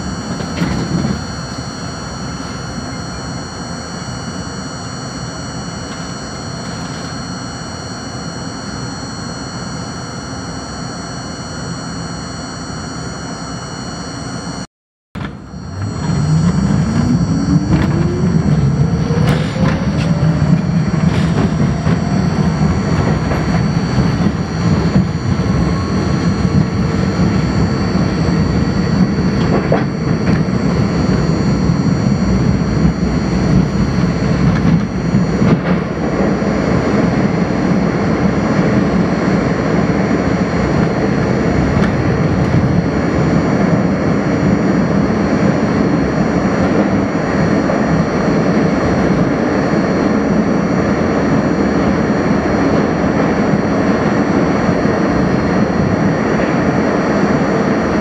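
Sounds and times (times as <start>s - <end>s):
wheels rumbling on rail: 0.0s - 7.2s, 15.2s - 58.0s
train traction motors whining: 0.0s - 58.0s.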